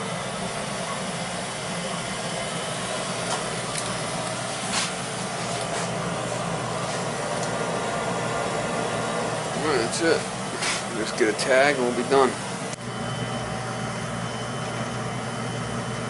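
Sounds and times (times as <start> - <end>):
oil burner rushing: 0.0 - 16.0.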